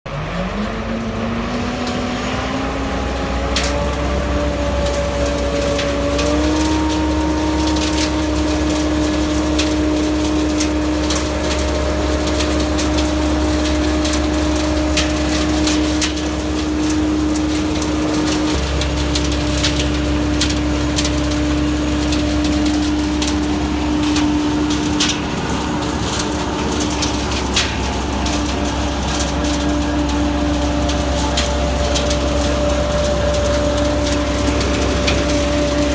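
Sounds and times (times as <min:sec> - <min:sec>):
low engine rumble: 0:00.0 - 0:35.9
vacuum sweeper whine: 0:00.1 - 0:35.9.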